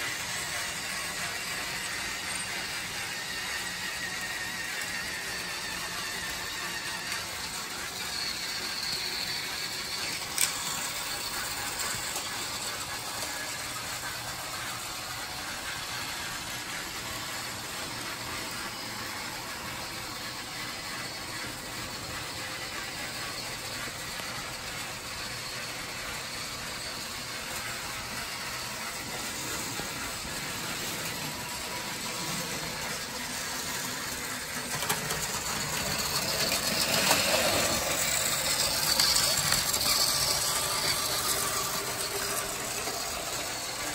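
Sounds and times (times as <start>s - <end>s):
toy train motor whirring: 0.0s - 43.9s.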